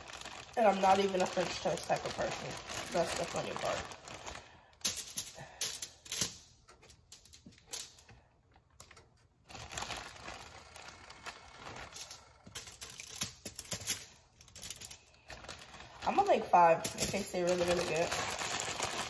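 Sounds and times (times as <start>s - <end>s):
plastic bag crinkling: 0.0s - 6.1s, 9.3s - 19.0s.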